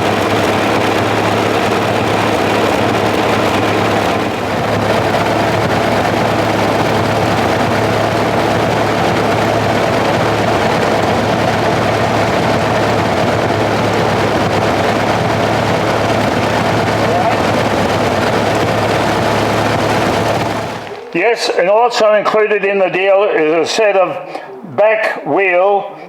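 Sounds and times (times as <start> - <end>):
tractor engine running steadily: 0.0 - 21.6.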